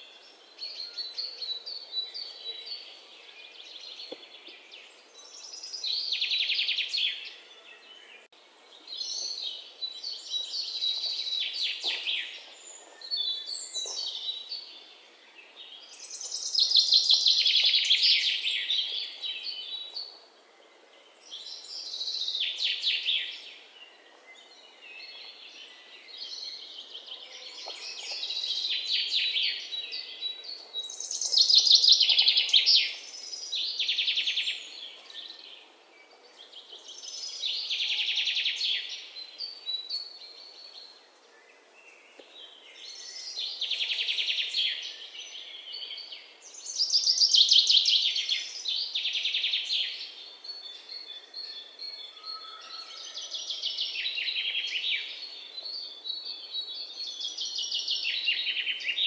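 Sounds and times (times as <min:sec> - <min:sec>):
faint outdoor hiss: 0:00.0 - 0:52.2, 0:53.0 - 0:59.0.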